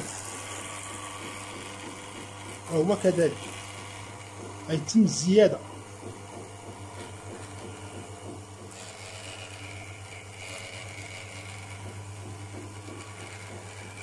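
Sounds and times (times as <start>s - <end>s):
espresso machine pump humming: 0.0s - 14.0s.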